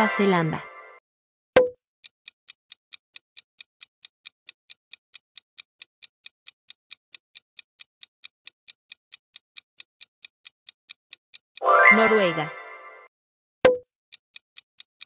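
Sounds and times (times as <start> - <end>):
clock ticking: 1.6 - 12.8, 13.7 - 15.0.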